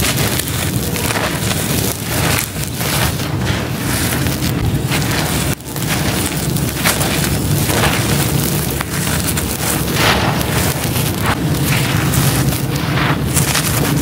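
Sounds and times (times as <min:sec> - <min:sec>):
charcoal crunching and pouring: 0:00.0 - 0:14.0.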